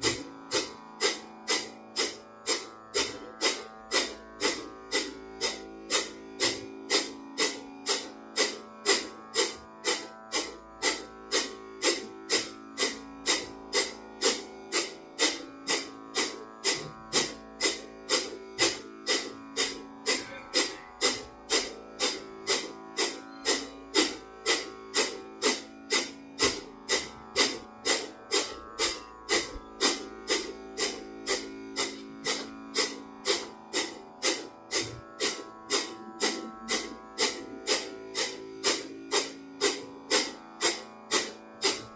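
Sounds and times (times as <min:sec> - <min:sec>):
plucked string instrument: 0:00.0 - 0:41.9
sustained drone: 0:00.0 - 0:41.9.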